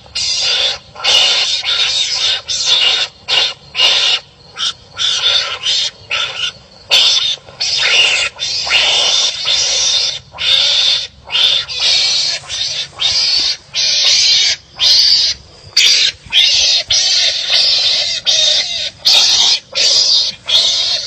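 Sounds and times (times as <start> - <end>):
animals raspy barking calls: 0.0 - 21.0.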